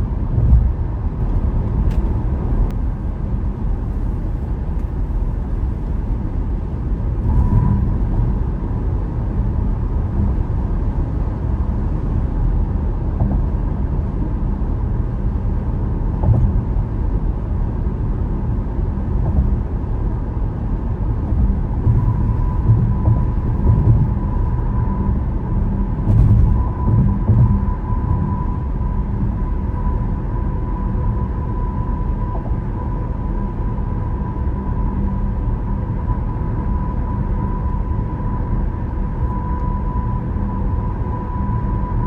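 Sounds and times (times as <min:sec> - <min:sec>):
road and tyre noise: 0:00.0 - 0:42.0.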